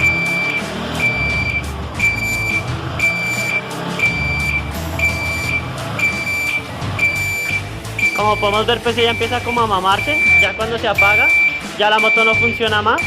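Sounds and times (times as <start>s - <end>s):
motorcycle alarm beeping: 0.0s - 13.0s
motorcycle engine stumbling: 0.0s - 13.0s.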